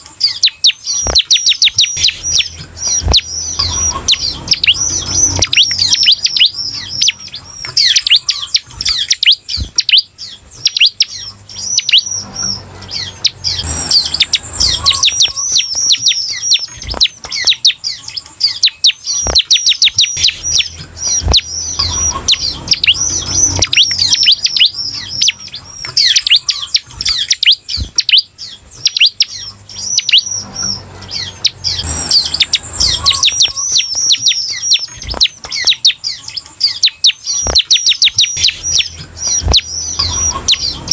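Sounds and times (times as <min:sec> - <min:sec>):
bird high buzz: 0:00.0 - 0:40.9
bird singing rapid chatter: 0:00.0 - 0:40.9.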